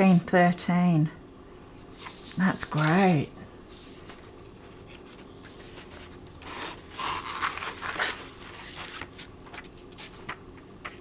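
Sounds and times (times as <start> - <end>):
book pages flipping: 1.8 - 11.0.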